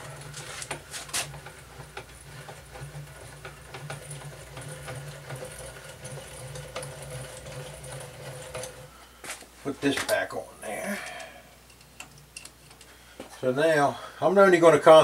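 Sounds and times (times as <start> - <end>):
faint low mechanical hum: 0.0 - 15.0.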